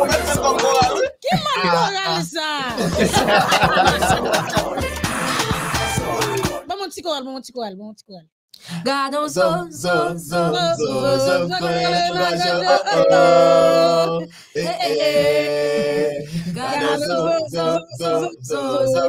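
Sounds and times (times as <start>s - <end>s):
person singing: 0.0s - 6.7s, 8.6s - 19.0s.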